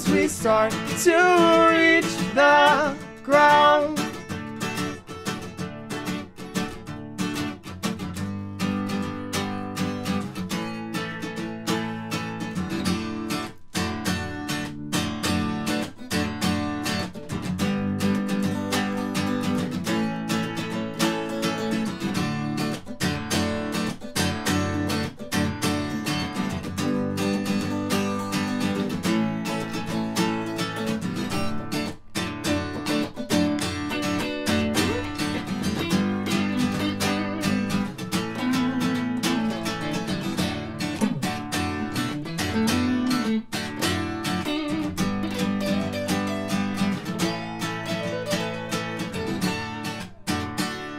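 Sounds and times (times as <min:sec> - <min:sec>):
acoustic guitar strumming: 0:00.0 - 0:50.9
electric guitar playing: 0:00.0 - 0:50.9.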